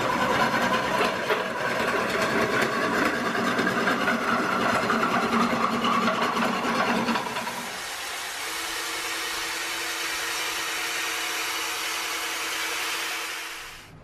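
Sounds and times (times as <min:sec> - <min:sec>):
shop vacuum running: 0:00.0 - 0:14.0.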